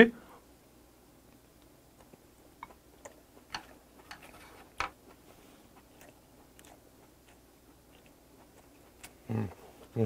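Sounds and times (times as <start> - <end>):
close-up chewing: 1.3 - 10.0.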